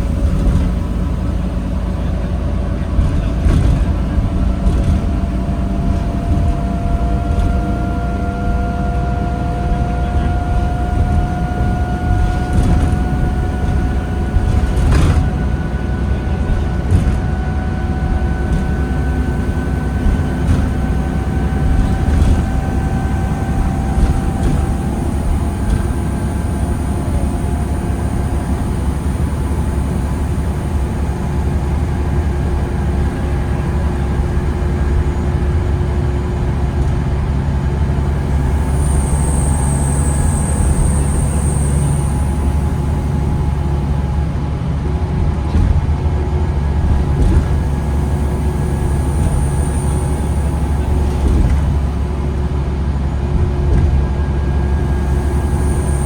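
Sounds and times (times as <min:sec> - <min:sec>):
bus engine rumble and whine: 0:00.0 - 0:56.0.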